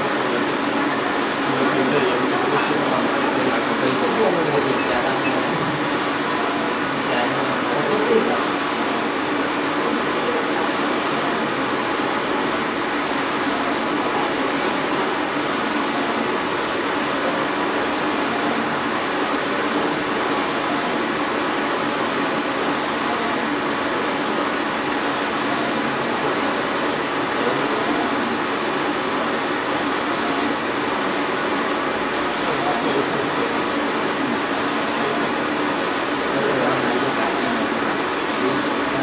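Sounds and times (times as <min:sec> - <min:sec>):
printer carriage whirring: 0:00.0 - 0:39.0.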